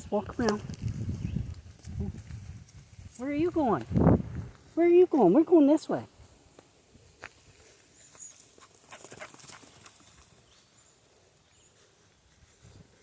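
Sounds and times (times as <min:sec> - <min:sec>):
footsteps on dirt trail: 0:00.0 - 0:05.5, 0:06.1 - 0:13.0.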